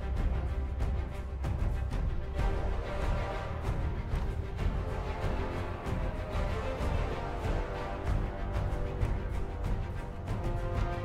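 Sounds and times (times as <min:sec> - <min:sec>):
background music with held tones: 0:00.0 - 0:11.0.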